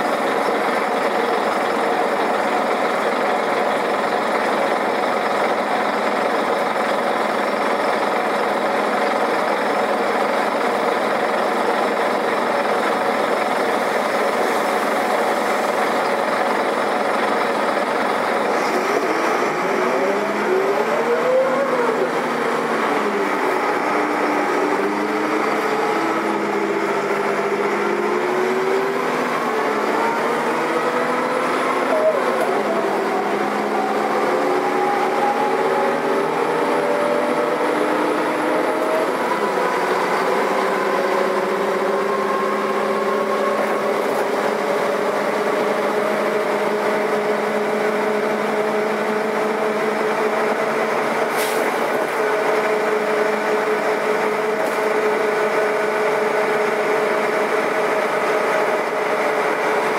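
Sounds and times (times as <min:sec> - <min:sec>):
bus engine running: 0:00.0 - 0:59.9
road and drive noise: 0:00.0 - 0:59.9.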